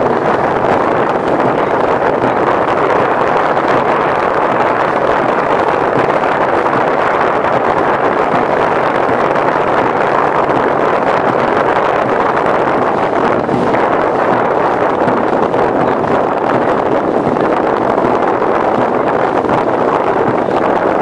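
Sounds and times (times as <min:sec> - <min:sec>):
motorboat engine running: 0:00.0 - 0:21.0.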